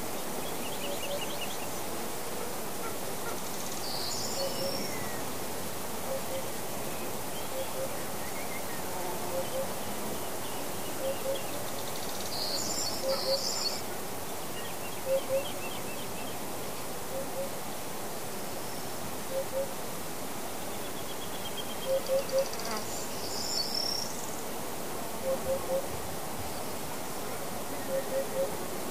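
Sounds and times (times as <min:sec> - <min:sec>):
songbirds chirping: 0:00.0 - 0:24.6, 0:25.2 - 0:28.9
steady background hiss: 0:00.0 - 0:28.9.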